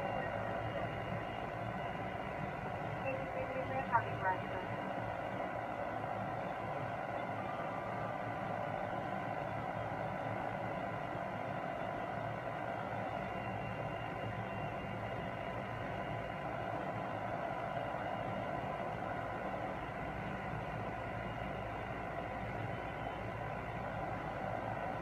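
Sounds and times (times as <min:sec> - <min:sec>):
low hum of idling engine: 0:00.0 - 0:25.0.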